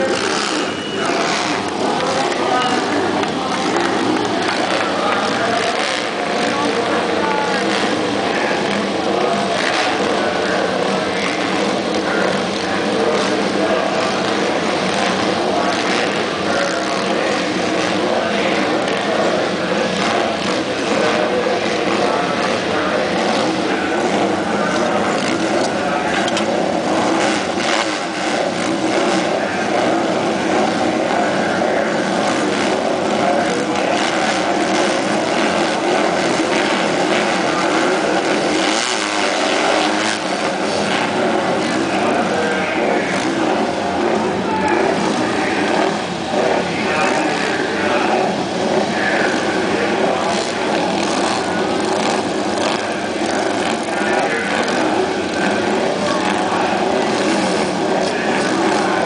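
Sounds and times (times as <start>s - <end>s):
racing motorcycle engines droning: 0.0s - 59.0s.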